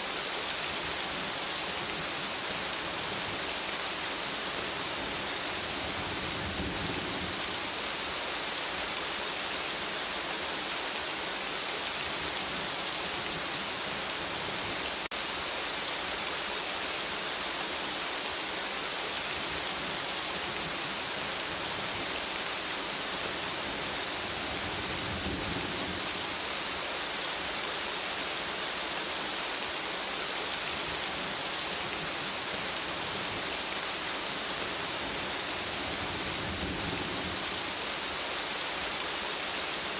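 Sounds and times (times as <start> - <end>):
rain on forest canopy: 0.0 - 39.9.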